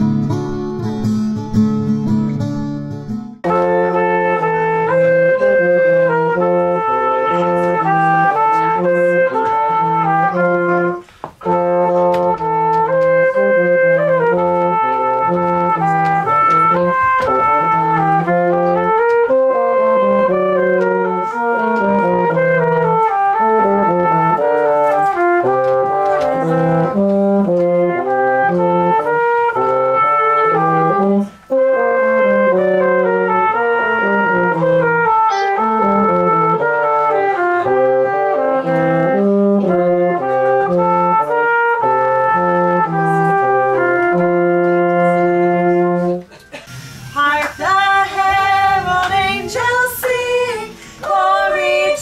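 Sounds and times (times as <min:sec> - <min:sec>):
cornet melody: 0:00.0 - 0:52.0
brass horn bass line: 0:03.4 - 0:52.0.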